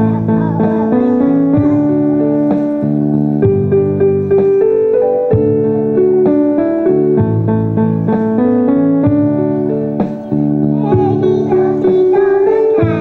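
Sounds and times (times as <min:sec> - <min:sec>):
piano melody over bass notes: 0:00.0 - 0:13.0.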